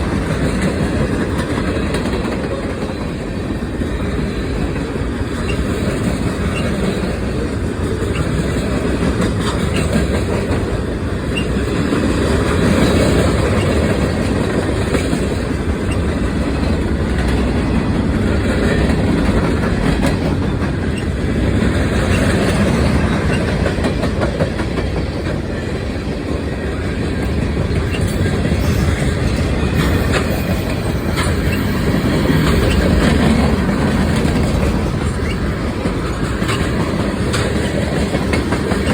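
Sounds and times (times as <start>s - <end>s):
train cars rumbling past: 0.0s - 38.9s
wheels clacking over rail joints: 0.0s - 38.9s.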